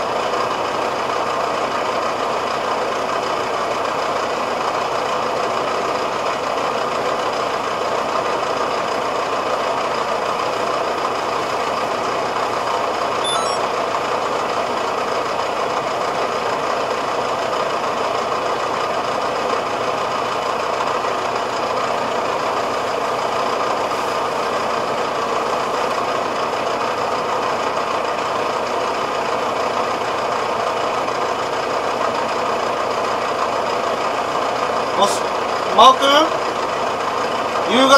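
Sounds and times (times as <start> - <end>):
tractor diesel engine idling: 0.0 - 13.2, 13.8 - 37.9.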